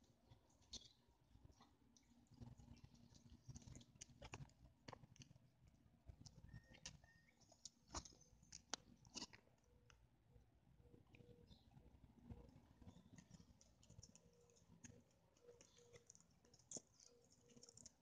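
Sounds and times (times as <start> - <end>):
faint clicks and ticks: 0.0 - 10.1, 10.8 - 18.0.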